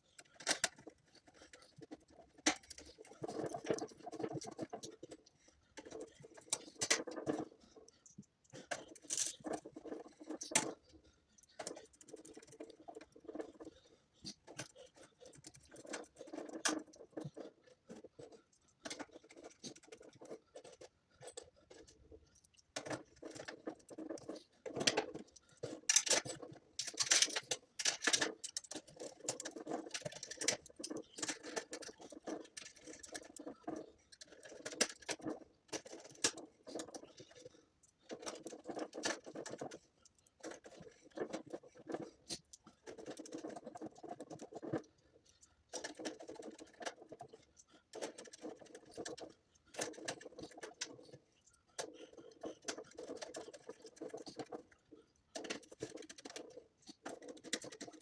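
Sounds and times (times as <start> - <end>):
small hard parts scratching and tapping: 0.0 - 58.0.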